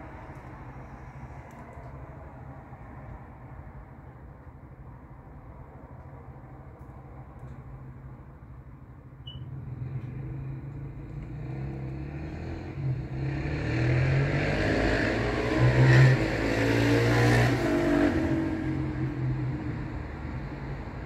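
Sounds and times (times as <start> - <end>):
low traffic hum: 0.0 - 21.0.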